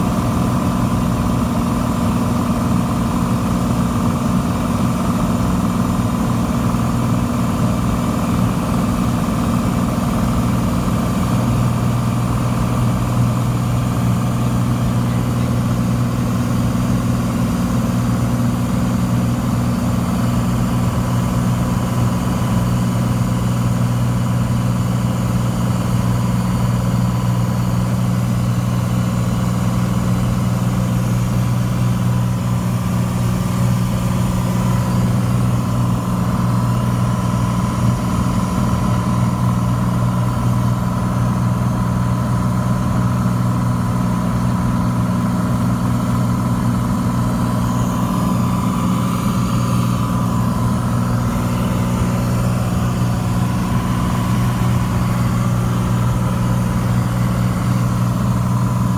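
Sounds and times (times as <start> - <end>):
airplane engine drone in cabin: 0.0 - 58.9.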